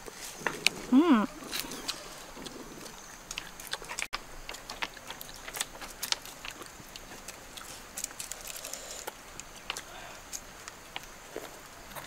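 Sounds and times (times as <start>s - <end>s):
chewing and smacking: 0.4s - 12.0s.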